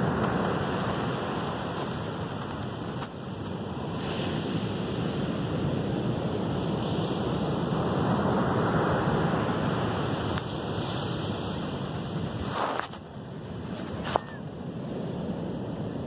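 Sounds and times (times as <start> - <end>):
ocean surf on sandy beach: 0.0 - 16.0.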